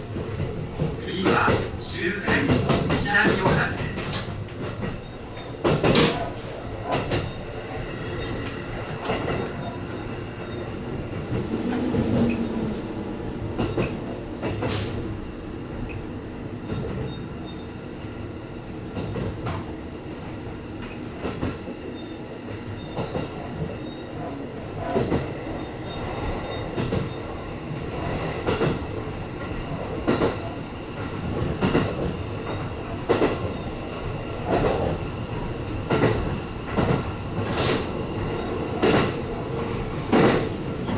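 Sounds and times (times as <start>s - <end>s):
electric train rumble and hum: 0.0s - 40.9s.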